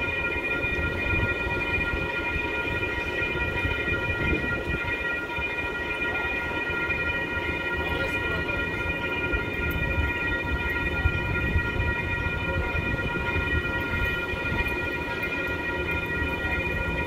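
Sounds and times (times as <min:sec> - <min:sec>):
crossing warning bell ringing: 0:00.0 - 0:17.0.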